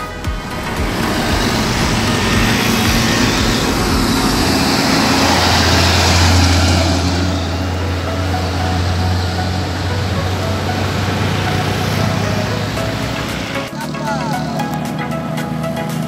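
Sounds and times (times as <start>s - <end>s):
coach driving past: 0.4s - 16.0s
diesel truck driving past: 0.4s - 16.0s.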